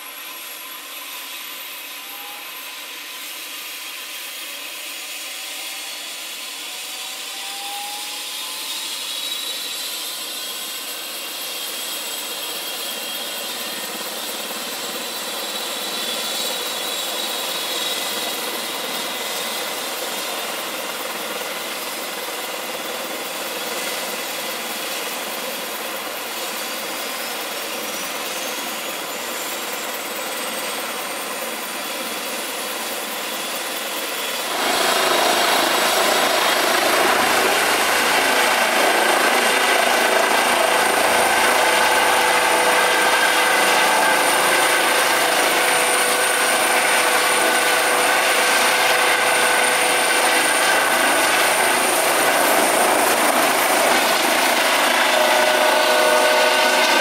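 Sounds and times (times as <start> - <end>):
helicopter engines spooling up: 0.0 - 57.0.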